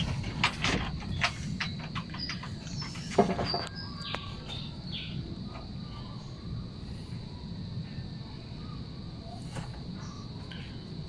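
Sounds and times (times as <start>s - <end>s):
birds chirping: 0.0s - 11.0s
steady background noise: 0.0s - 11.0s.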